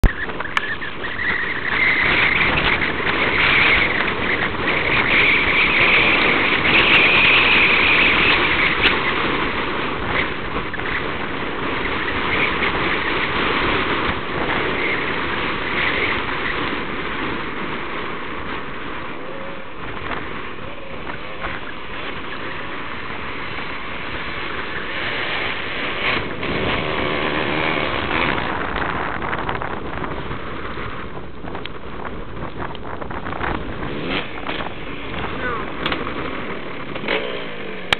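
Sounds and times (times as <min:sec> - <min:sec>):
motocross motorcycle engine running hard: 0:00.0 - 0:37.9.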